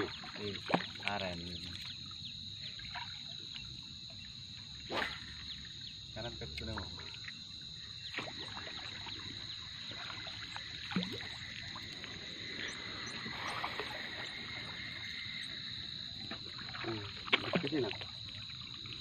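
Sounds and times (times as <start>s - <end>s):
water swishing around pole and hull: 0.0s - 19.0s.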